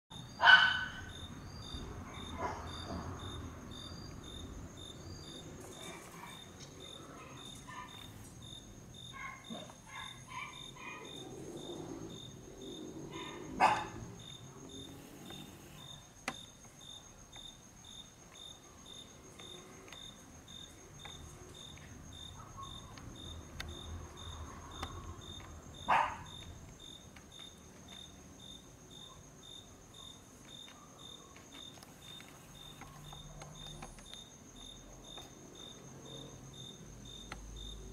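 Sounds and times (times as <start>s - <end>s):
crickets chirping: 0.1s - 37.9s.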